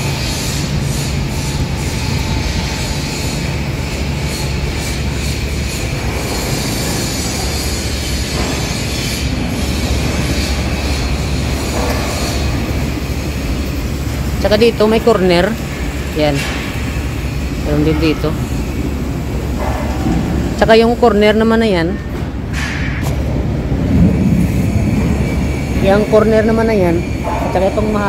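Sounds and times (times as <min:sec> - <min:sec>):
machine humming and hissing: 0:00.0 - 0:28.0.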